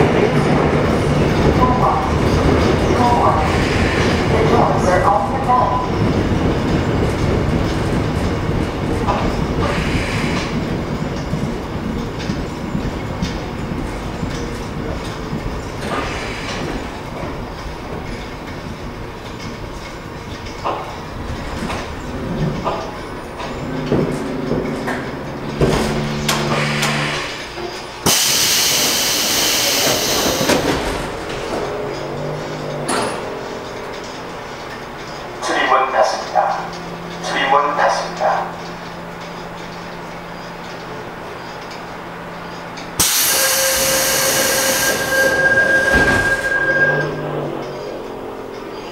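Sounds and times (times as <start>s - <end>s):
subway wheels rumbling on track: 0.0s - 48.9s.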